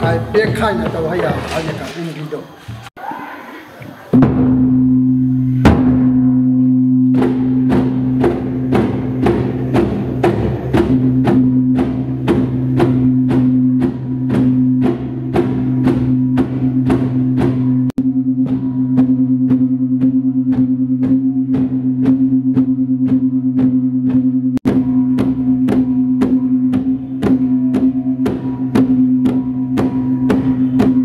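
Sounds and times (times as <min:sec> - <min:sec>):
large drums beaten with sticks: 0:00.0 - 0:01.7, 0:04.1 - 0:31.0.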